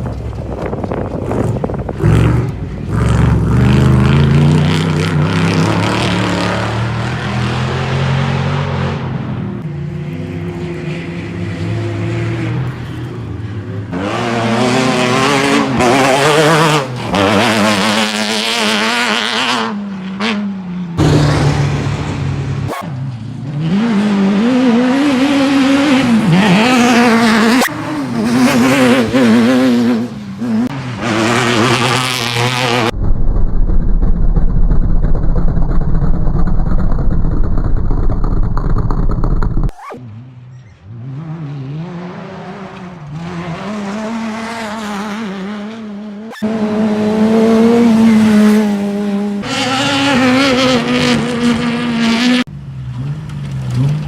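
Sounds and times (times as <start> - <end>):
race car engines revving: 0.0 - 33.0, 35.2 - 54.0.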